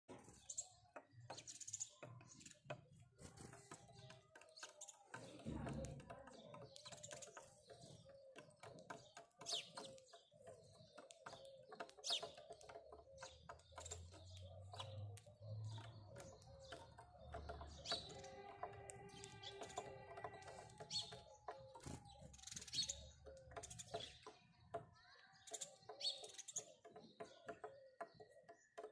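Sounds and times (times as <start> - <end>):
birds pecking seed clicks: 0.1 - 28.9
sparrow chirps: 0.1 - 28.9.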